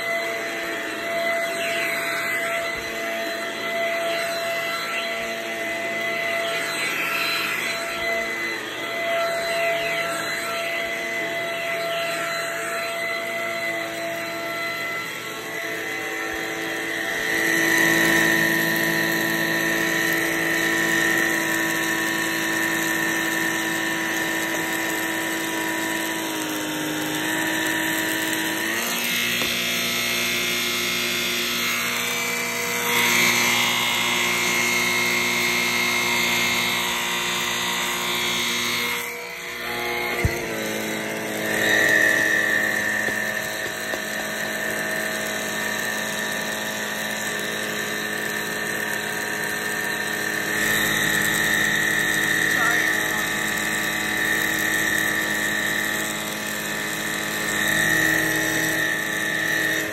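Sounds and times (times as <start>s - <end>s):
stick vacuum motor whine: 0.0s - 59.9s.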